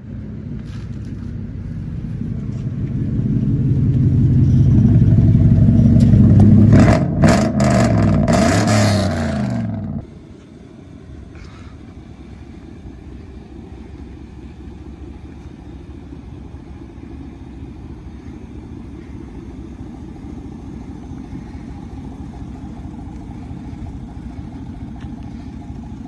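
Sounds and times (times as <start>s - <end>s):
truck exhaust rumbling at low revs: 0.0s - 26.0s.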